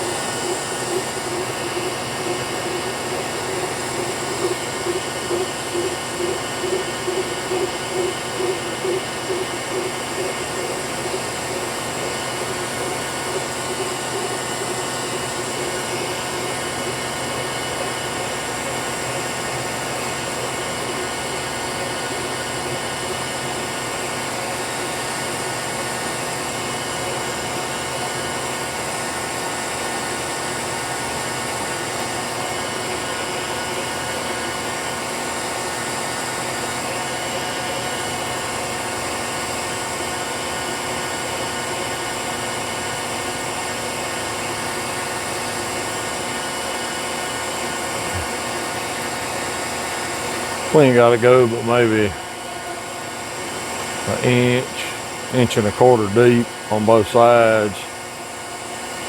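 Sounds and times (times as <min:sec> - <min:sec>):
milling machine whine: 0:00.0 - 0:59.0.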